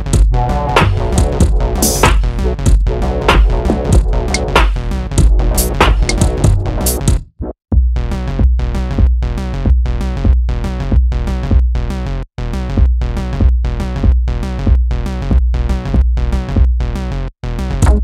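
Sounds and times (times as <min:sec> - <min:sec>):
music with deep bass beat: 0:00.0 - 0:18.0.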